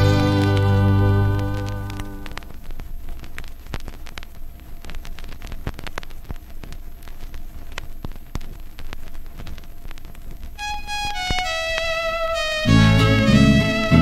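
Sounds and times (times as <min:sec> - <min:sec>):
vinyl crackles and pops: 0:00.0 - 0:14.0.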